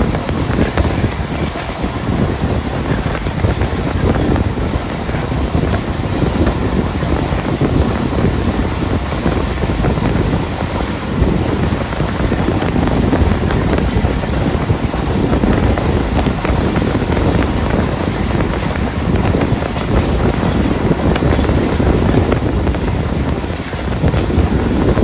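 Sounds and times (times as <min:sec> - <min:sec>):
train wheels rumbling on rails: 0:00.0 - 0:25.0
wind rushing over microphone: 0:00.0 - 0:25.0.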